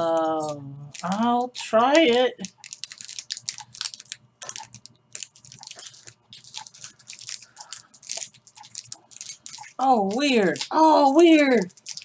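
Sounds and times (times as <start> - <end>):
candy wrapper crinkling: 0.0 - 12.0.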